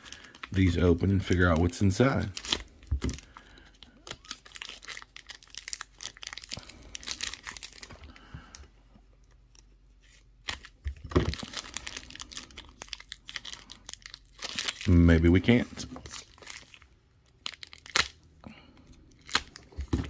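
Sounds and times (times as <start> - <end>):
plastic wrapping crinkling and tearing: 0.0 - 8.2, 9.5 - 18.2, 19.0 - 20.0.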